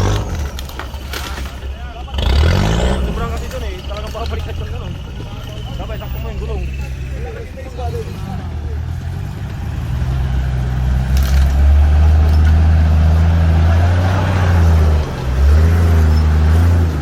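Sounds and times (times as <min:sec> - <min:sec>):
off-road vehicle engine under load: 0:00.0 - 0:17.0.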